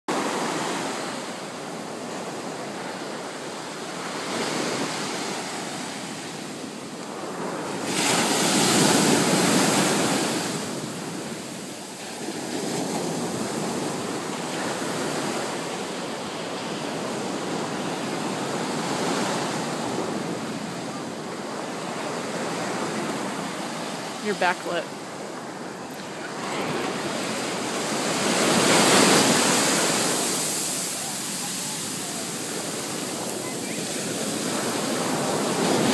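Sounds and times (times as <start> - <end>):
ocean surf on sandy beach: 0.1 - 35.9.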